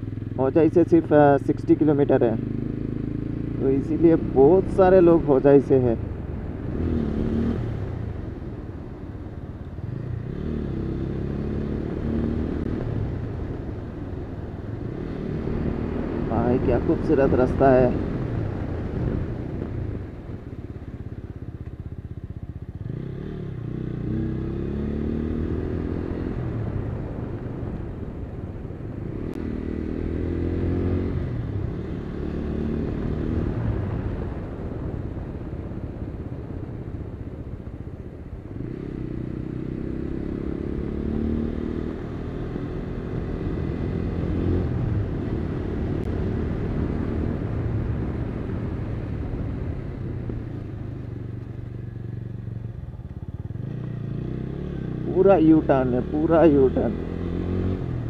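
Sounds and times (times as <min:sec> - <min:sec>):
low rumble of road noise: 0:00.0 - 0:58.0
motorcycle engine accelerating: 0:00.0 - 0:58.0.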